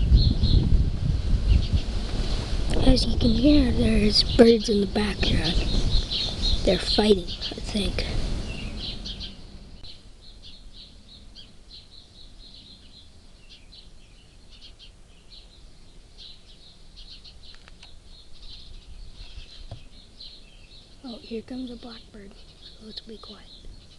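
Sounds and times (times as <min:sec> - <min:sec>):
flock of birds chirping: 0:01.5 - 0:23.9.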